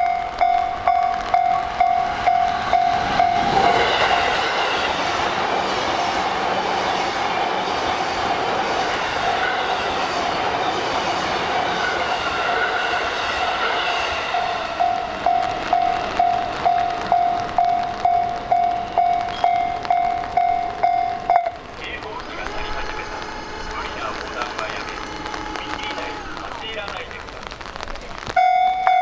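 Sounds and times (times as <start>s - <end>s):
level-crossing warning bell ringing: 0.0s - 26.8s, 28.4s - 29.0s
train wheels clattering on rails: 0.0s - 29.0s.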